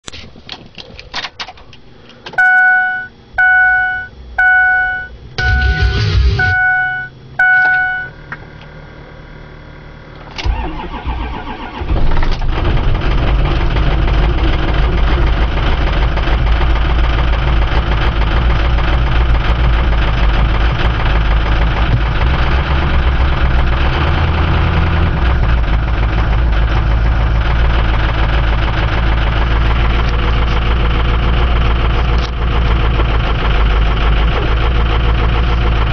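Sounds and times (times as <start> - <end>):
diesel engine cranking and idling: 3.4 - 35.9.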